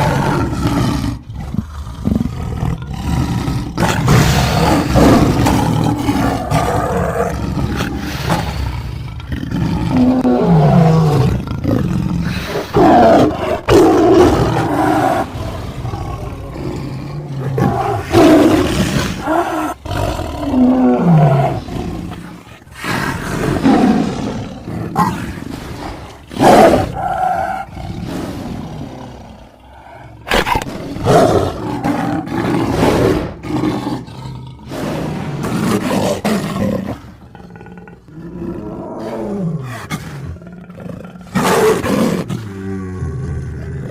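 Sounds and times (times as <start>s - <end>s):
big cat roars and growls: 0.0s - 43.9s.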